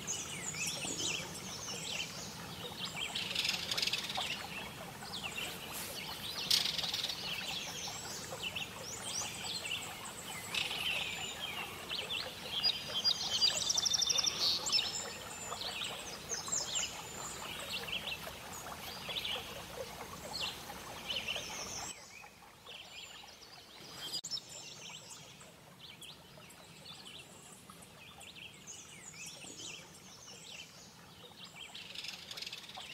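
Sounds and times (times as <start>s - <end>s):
songbirds chirping and singing: 0.0s - 32.9s.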